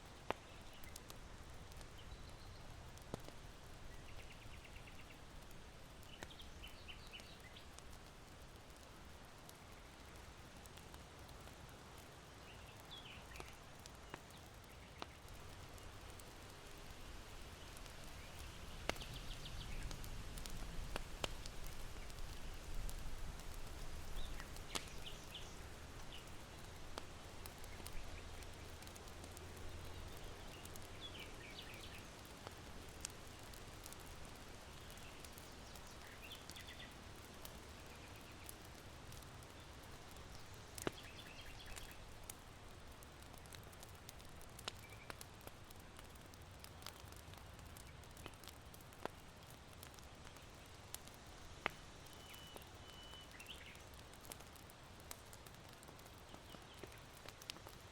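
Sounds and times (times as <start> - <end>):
charcoal fire crackling and popping: 0.0 - 57.9
small birds chirping: 0.1 - 10.4, 11.0 - 16.4, 17.4 - 54.4, 55.2 - 57.8
wind in bamboo: 0.2 - 46.2, 50.0 - 54.6.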